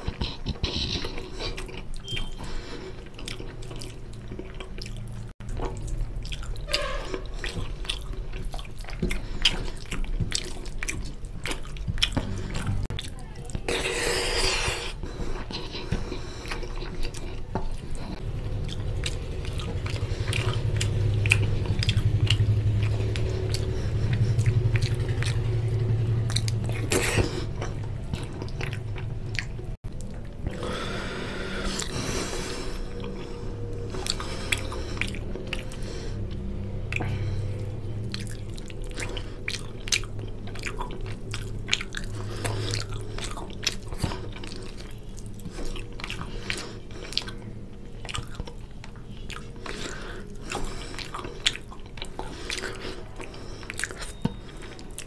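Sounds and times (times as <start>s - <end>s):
person chewing with wet smacking: 0.0s - 55.0s.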